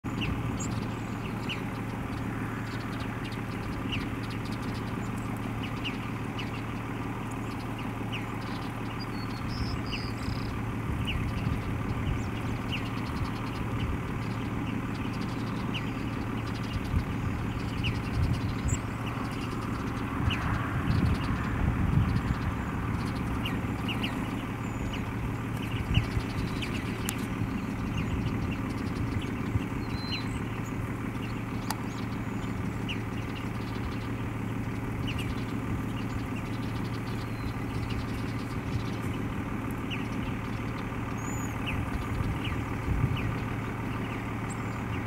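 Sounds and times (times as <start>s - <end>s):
birds giving thin calls: 0.0s - 45.0s
steady low hum: 0.1s - 45.0s.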